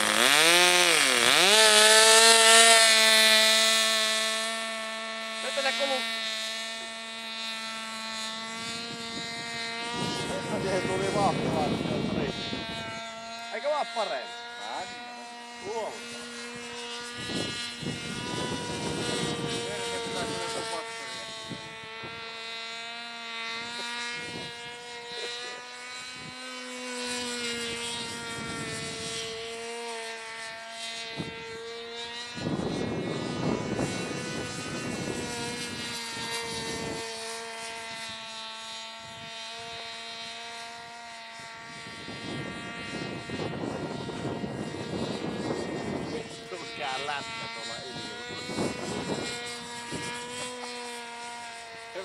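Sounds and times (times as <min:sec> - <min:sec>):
model plane motor whining: 0:00.0 - 0:52.0.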